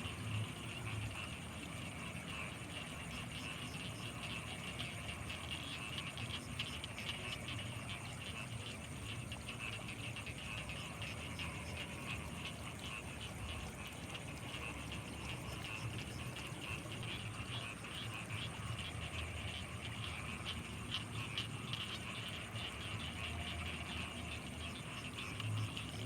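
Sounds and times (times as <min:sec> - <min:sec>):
frogs and insects trilling: 0:00.0 - 0:26.0.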